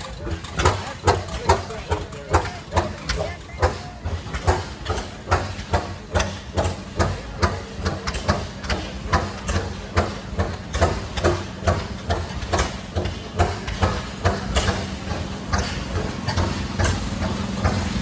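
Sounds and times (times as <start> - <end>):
engine exhaust bangs: 0.0 - 18.0
gasoline engine running: 0.0 - 18.0.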